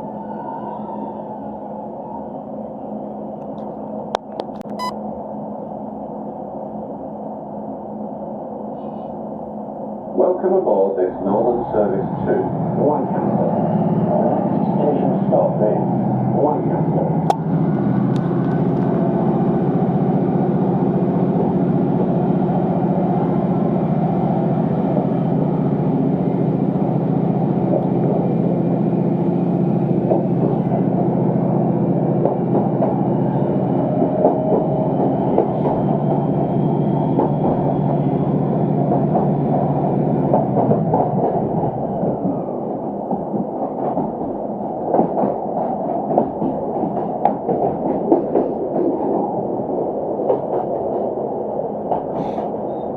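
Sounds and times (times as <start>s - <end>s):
rail noise: 0.0s - 52.9s
train engine drone: 0.0s - 52.9s.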